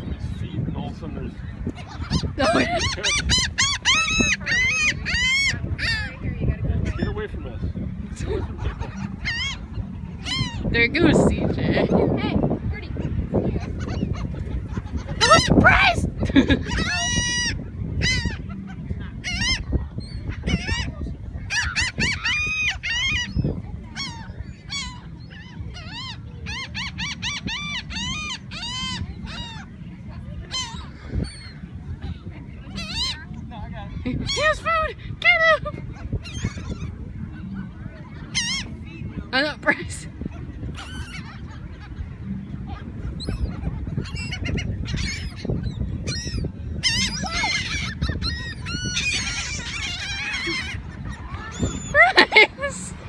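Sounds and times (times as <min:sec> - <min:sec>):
seagulls calling: 0:00.0 - 0:53.0.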